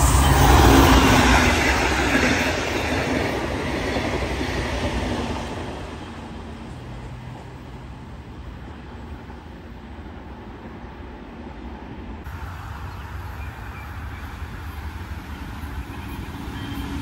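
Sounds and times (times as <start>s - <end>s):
passenger train passing: 0.0s - 17.0s
rumble of wheels on rail: 0.0s - 17.0s.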